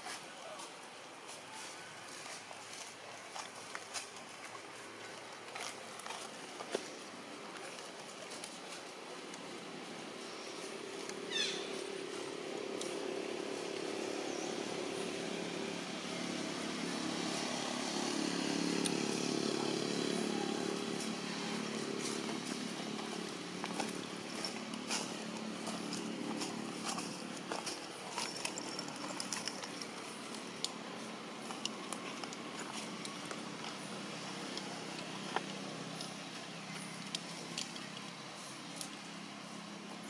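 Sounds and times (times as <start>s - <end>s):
engine hum: 2.9s - 40.0s.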